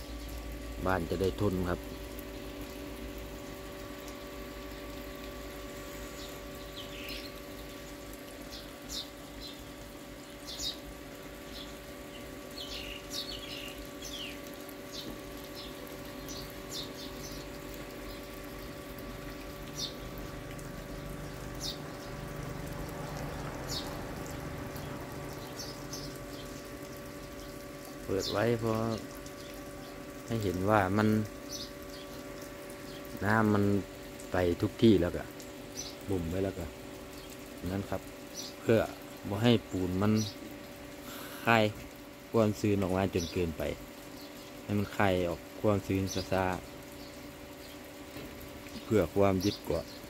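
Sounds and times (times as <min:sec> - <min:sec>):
small birds chirping: 0:00.0 - 0:02.2, 0:04.3 - 0:41.8, 0:42.4 - 0:50.0
steady hum: 0:00.0 - 0:49.9
water running: 0:00.0 - 0:50.0.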